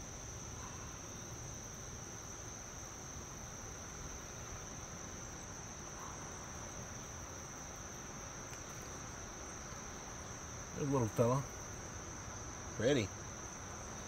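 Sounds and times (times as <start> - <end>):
insects chirping: 0.0 - 14.0
low background noise: 0.0 - 14.0.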